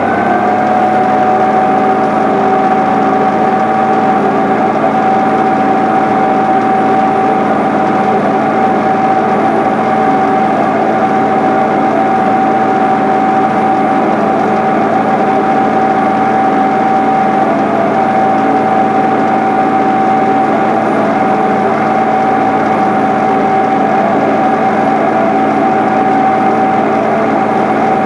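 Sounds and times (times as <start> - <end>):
steady whine: 0.0 - 28.0
tractor diesel engine running: 0.0 - 28.0.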